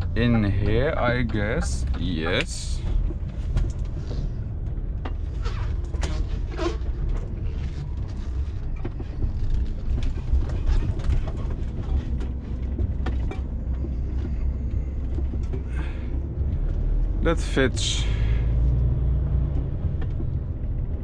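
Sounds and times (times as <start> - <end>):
truck diesel engine rumbling: 0.0 - 21.0.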